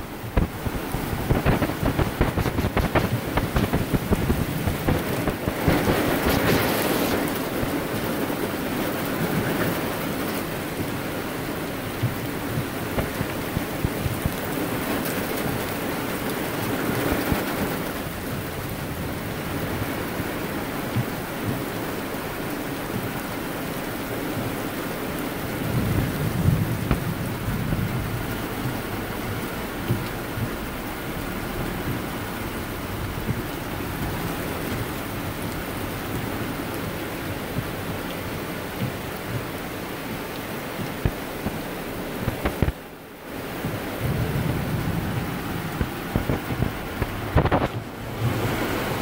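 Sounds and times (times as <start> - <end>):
heavy rain hissing: 0.0 - 49.0.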